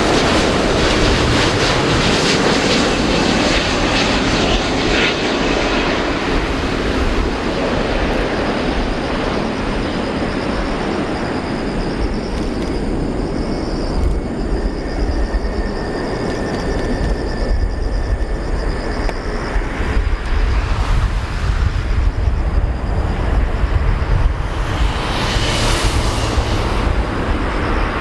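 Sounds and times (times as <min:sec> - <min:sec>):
jet engines low rumble: 0:00.0 - 0:28.0.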